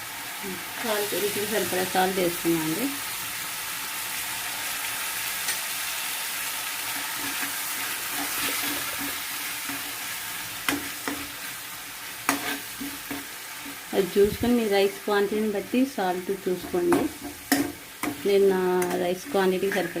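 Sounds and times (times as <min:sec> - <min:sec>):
paste sizzling in hot oil: 0:00.0 - 0:20.0.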